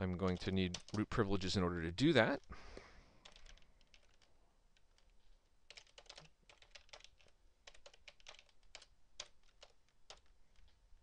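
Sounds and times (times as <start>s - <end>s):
faint keyboard typing: 0.0s - 1.6s, 2.2s - 11.0s.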